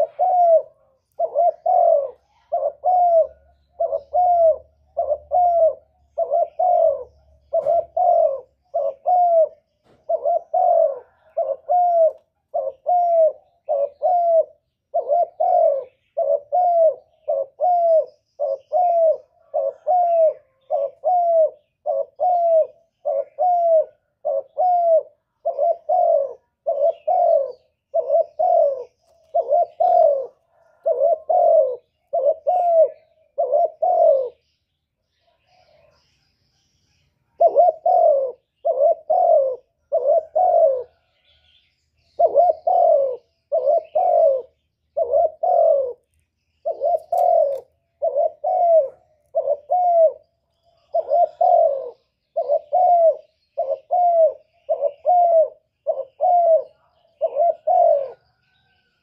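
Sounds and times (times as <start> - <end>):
dove cooing: 0.0 - 36.2, 36.9 - 59.0.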